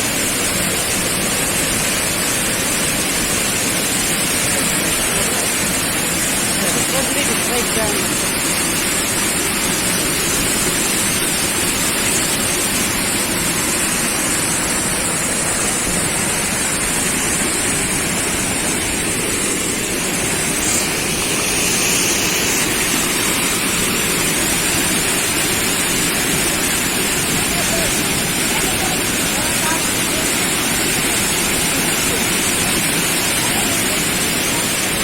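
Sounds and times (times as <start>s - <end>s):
rush of falling water: 0.0s - 35.0s.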